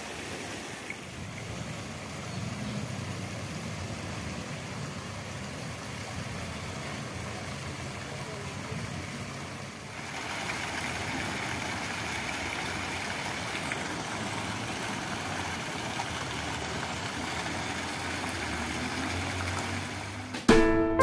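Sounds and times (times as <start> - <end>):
fountain water splashing: 0.0 - 20.4.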